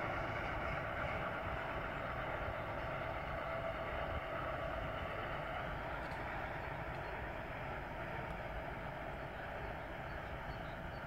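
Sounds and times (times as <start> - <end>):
distant freight train rumbling: 0.0 - 11.0.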